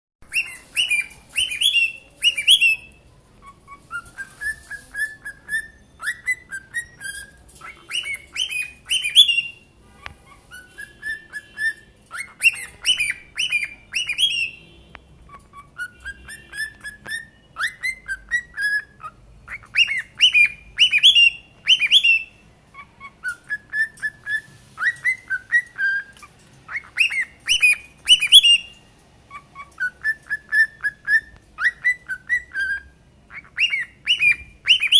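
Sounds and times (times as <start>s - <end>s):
cockatiels whistling: 0.2s - 34.9s.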